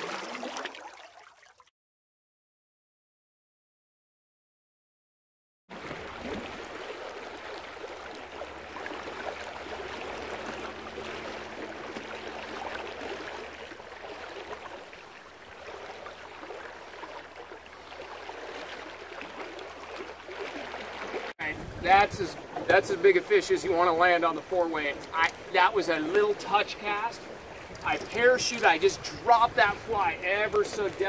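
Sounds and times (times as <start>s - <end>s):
river water rushing: 5.8s - 31.0s.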